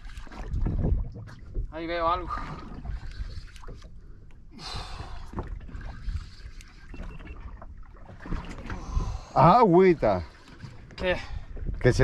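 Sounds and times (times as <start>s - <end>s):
boat rumble: 0.0s - 12.0s
low wind: 0.0s - 12.0s.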